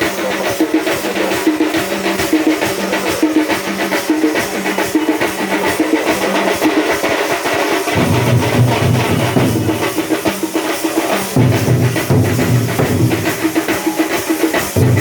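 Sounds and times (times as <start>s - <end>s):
music with drum beat: 0.0s - 15.0s.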